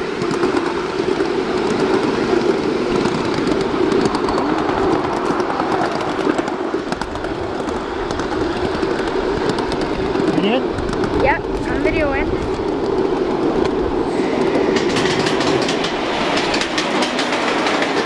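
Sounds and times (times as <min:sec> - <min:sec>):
miniature train wheels rumbling on rail: 0:00.0 - 0:18.0.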